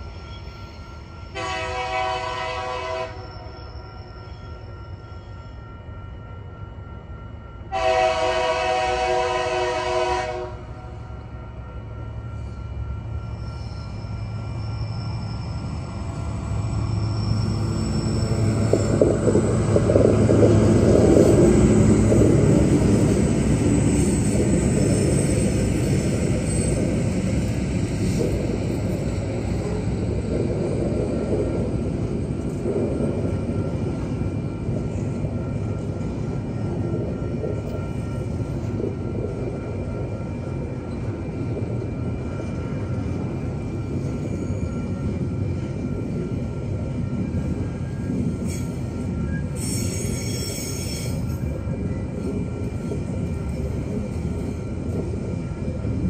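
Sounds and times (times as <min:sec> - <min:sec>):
crossing warning bell ringing: 0:00.0 - 0:56.0
locomotive engines passing: 0:06.2 - 0:56.0.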